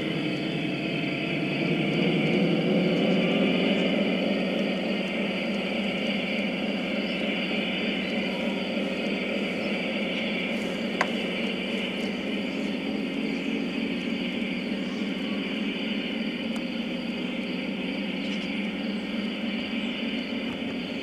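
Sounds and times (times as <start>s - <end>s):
model train rolling on track: 0.0s - 21.0s.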